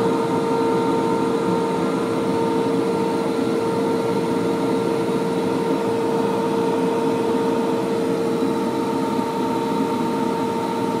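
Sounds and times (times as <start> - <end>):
constant machine whine: 0.0 - 11.0.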